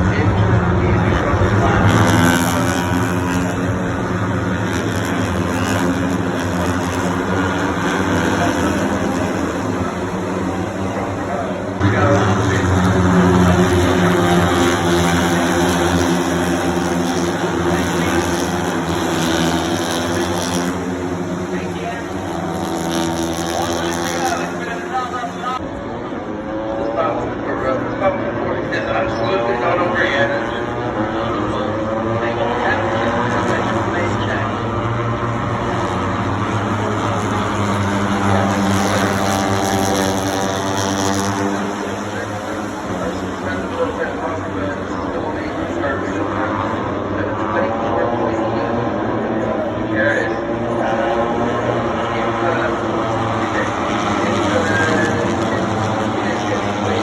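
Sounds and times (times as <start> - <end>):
motorcycle engines at high revs: 0.0 - 57.0.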